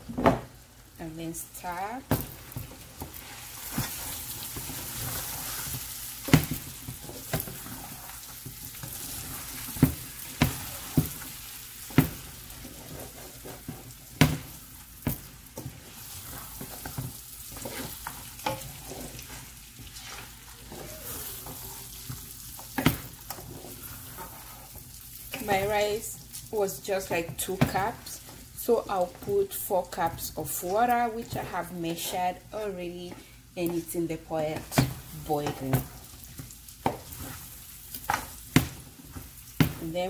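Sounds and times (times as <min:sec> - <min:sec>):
rice and meat sizzling in oil: 0:00.0 - 0:40.0.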